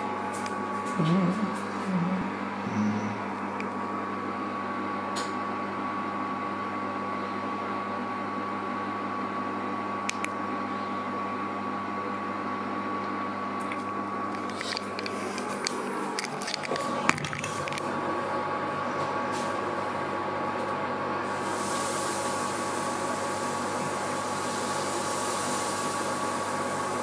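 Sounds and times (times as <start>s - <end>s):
fan hum with thin whine: 0.0s - 27.0s.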